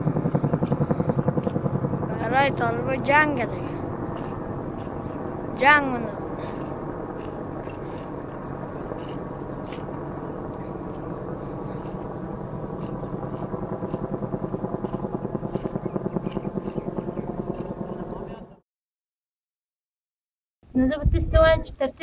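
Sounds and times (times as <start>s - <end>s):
engine droning: 0.0s - 18.6s.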